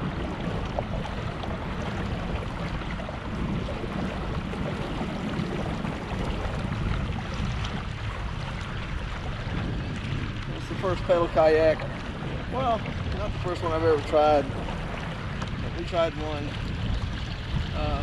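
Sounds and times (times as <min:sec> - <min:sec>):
water washing along kayak hull: 0:00.0 - 0:18.0
wind on microphone: 0:00.0 - 0:18.0.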